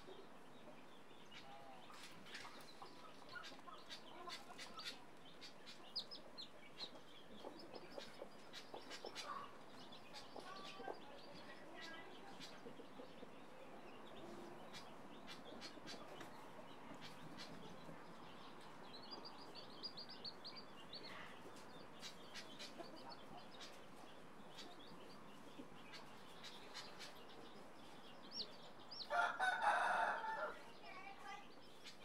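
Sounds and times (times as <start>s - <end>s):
chicks peeping: 0.0s - 32.0s.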